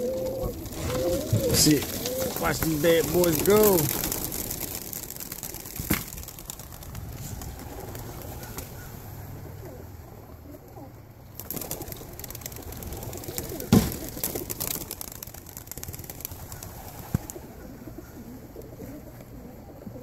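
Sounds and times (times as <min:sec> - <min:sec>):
wings clattering: 0:00.0 - 0:09.8, 0:11.3 - 0:18.0
pigeons cooing: 0:00.0 - 0:20.0.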